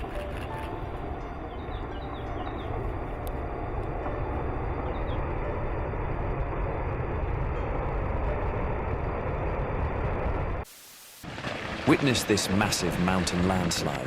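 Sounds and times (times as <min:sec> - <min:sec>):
landslide rumble and roar: 0:00.0 - 0:14.0.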